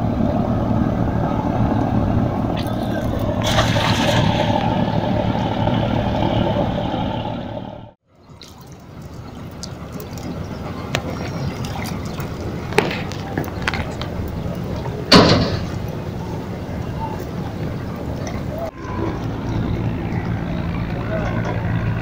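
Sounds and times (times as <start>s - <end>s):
steady rumble: 0.0s - 8.0s, 8.8s - 22.0s
riverside ambient noise: 0.0s - 22.0s
water churning and splashing: 0.2s - 22.0s.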